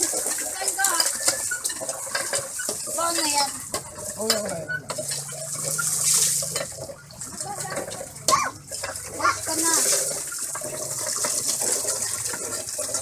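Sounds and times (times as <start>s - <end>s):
water gushing into plastic basins: 0.0s - 13.0s.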